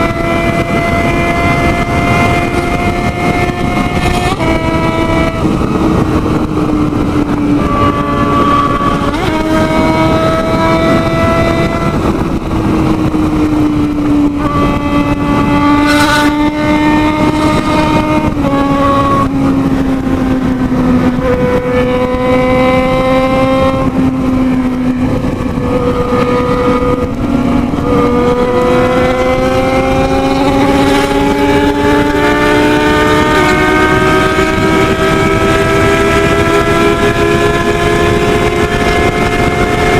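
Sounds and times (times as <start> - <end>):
motorcycle engine at high speed: 0.0 - 39.9
wind rush: 0.0 - 39.9.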